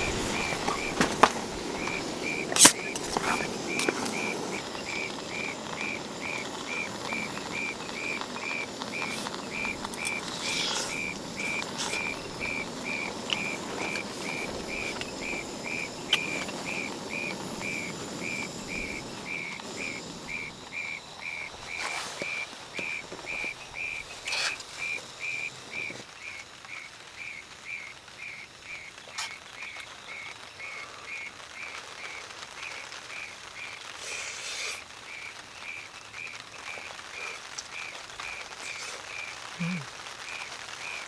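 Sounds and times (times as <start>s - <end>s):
light hiss: 0.0s - 41.0s.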